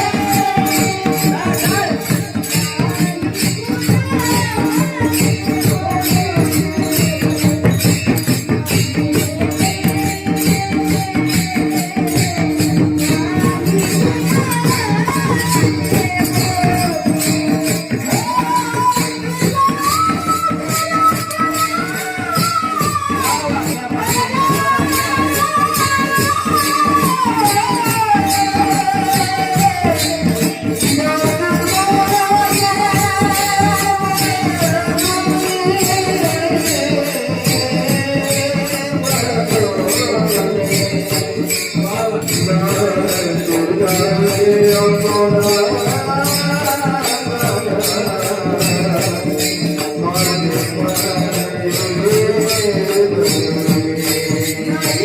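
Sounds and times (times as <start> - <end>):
hand cymbals jingling: 0.0 - 55.0
man singing in a high voice: 0.0 - 55.0.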